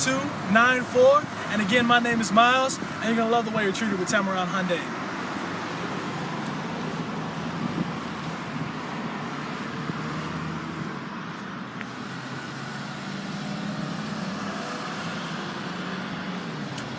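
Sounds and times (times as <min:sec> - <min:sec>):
road traffic hum: 0:00.0 - 0:16.9.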